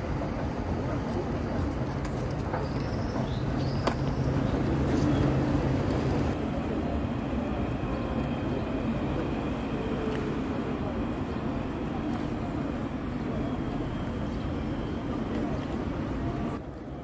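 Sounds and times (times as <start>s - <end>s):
traffic hum: 0.0s - 17.0s.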